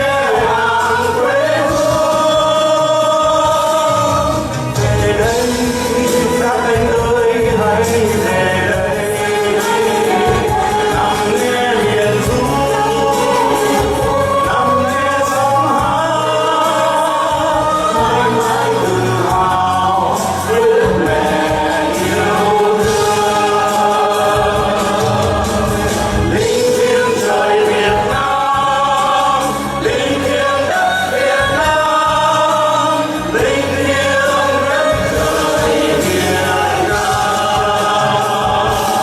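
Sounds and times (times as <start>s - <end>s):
instrumental backing: 0.0s - 39.0s
several voices singing: 0.0s - 39.0s.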